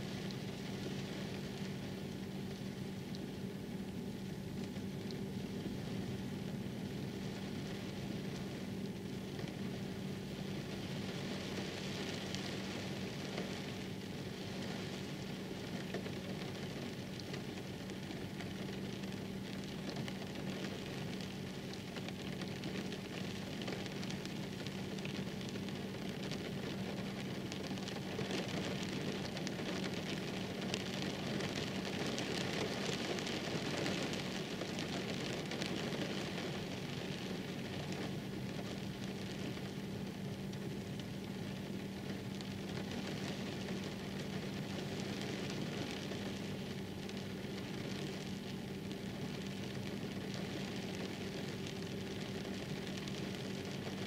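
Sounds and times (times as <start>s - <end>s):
constant low hum: 0.0s - 54.0s
steady rain falling: 0.0s - 54.0s.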